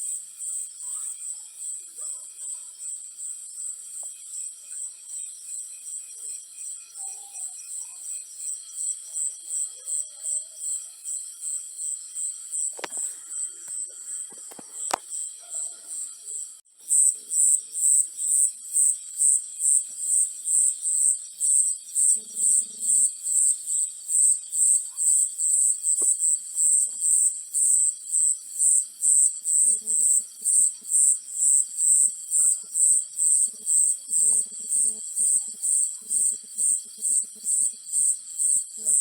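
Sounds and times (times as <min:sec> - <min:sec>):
insect chirping: 0:00.0 - 0:39.0.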